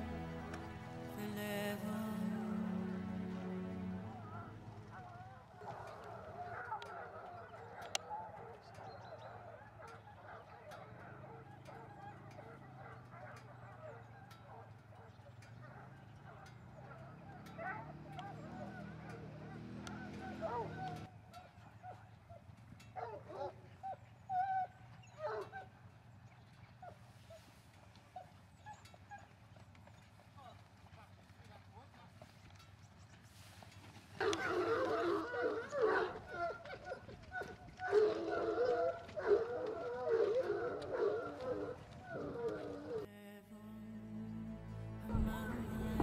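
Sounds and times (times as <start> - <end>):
distant hounds baying: 2.6 - 30.1, 32.8 - 43.1.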